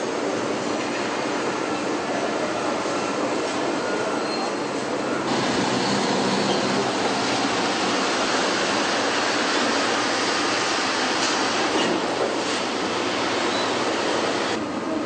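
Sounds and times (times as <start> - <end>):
loud factory hall din: 0.0 - 15.0.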